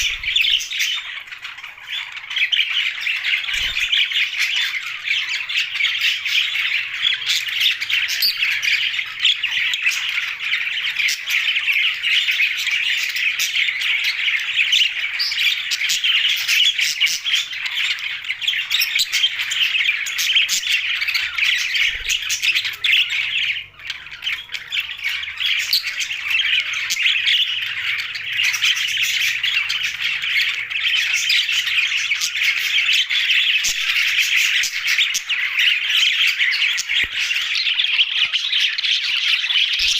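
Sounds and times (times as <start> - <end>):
budgies chattering and squawking: 0.0 - 39.9.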